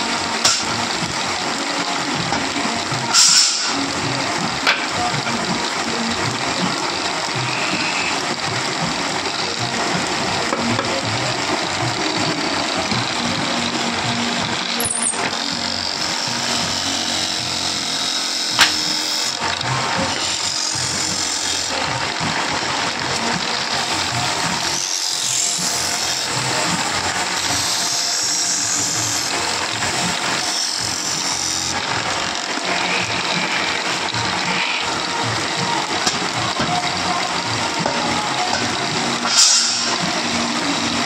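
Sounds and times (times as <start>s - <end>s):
background music: 0.0s - 41.0s
chisel scraping spinning wood: 0.0s - 41.0s
wood lathe running: 0.0s - 41.0s.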